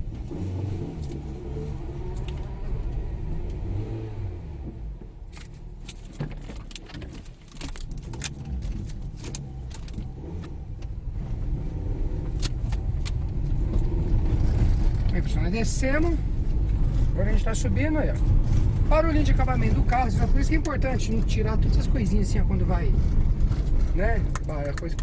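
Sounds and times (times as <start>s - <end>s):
interior trim clicks and rattles: 0.0s - 3.8s, 4.6s - 25.0s
tyre and engine rumble: 0.0s - 25.0s.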